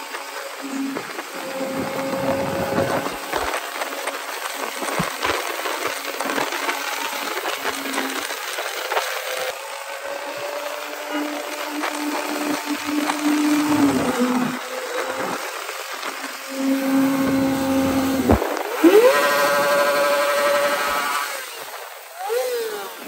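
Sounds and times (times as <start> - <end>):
sharp clicks and crackles: 0.0 - 22.5.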